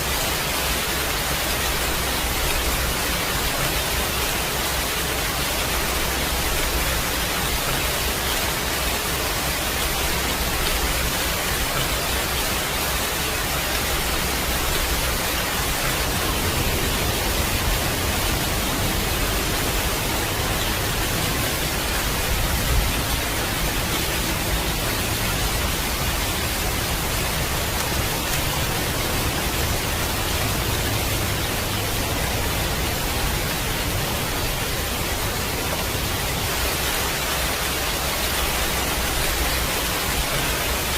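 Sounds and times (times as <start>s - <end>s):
dense rain hiss: 0.0s - 40.9s.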